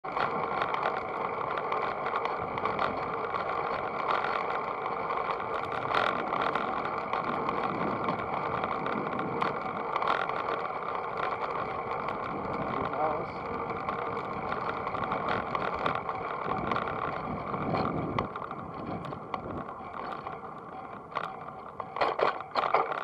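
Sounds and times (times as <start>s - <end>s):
bicycle tyres rolling on asphalt: 0.0s - 23.0s
small knocks and clicks: 0.1s - 13.0s, 13.6s - 23.0s.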